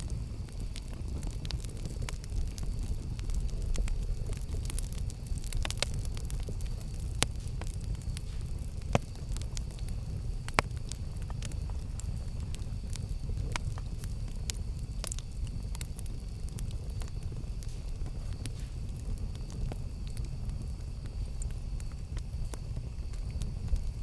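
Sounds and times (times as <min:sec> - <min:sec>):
campfire rumbling: 0:00.0 - 0:24.0
fire crackles and pops: 0:00.0 - 0:24.0.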